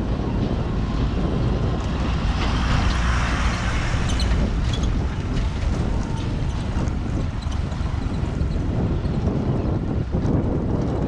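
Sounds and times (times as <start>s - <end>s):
truck driving on gravel: 0.2s - 11.0s.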